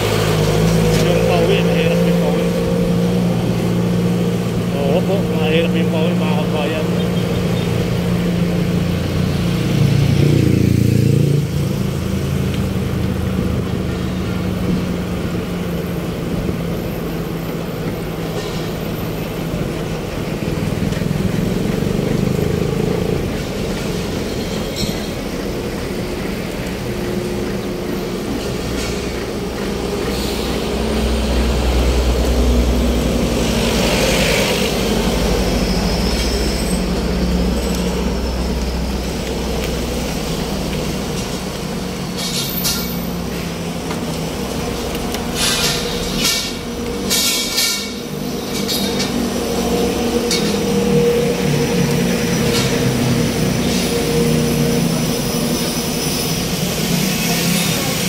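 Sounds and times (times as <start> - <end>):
deep engine rumble: 0.0 - 58.0
vehicle engines running: 0.0 - 58.0.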